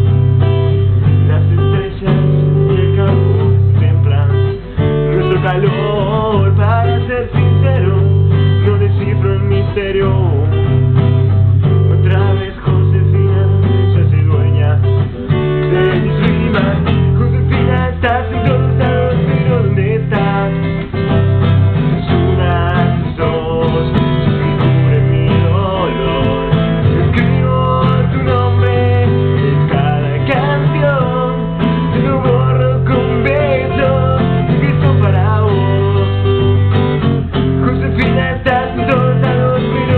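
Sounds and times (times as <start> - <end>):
acoustic guitar strumming: 0.0 - 39.9
man singing: 0.0 - 39.9.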